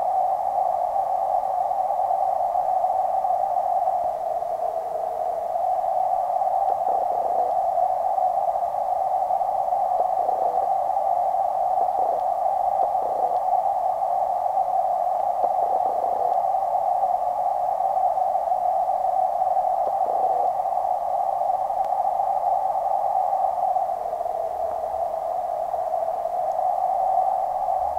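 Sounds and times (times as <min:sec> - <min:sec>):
muffled underwater hiss: 0:00.0 - 0:27.9.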